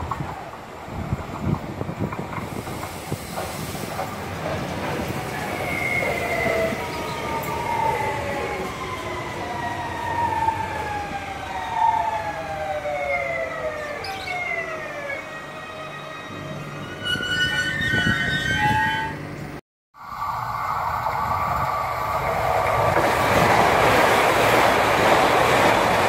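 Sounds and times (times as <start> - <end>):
wheels rumbling on rails: 0.0 - 11.8, 16.3 - 26.0.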